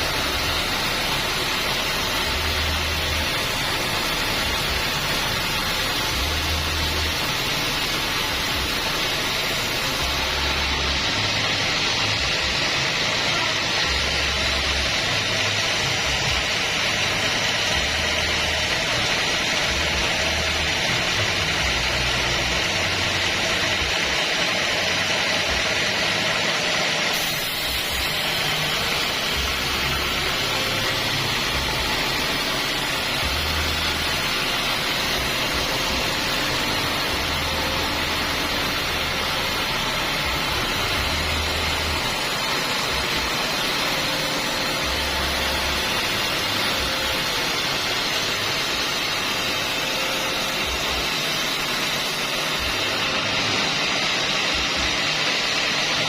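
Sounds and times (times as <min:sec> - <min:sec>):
bandsaw whirring: 0:00.0 - 0:56.0.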